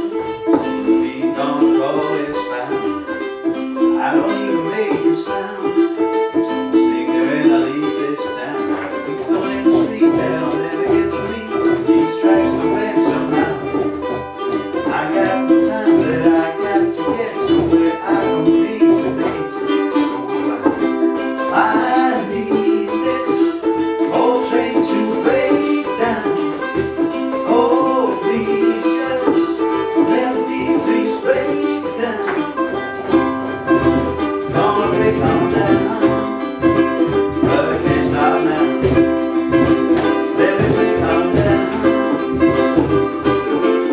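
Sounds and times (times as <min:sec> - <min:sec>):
box drum beat: 0:00.0 - 0:01.8, 0:08.8 - 0:43.9
strummed ukuleles: 0:00.0 - 0:43.9.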